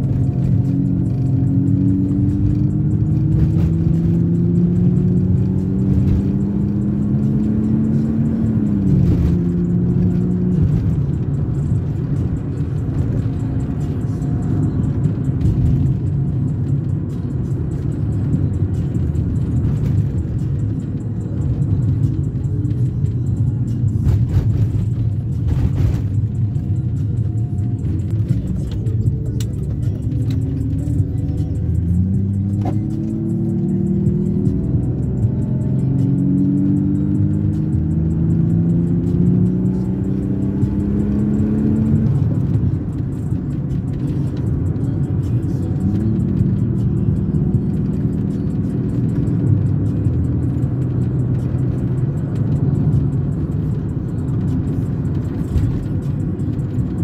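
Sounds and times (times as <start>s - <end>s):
car engine accelerating: 0.0s - 57.0s
music: 4.2s - 57.0s.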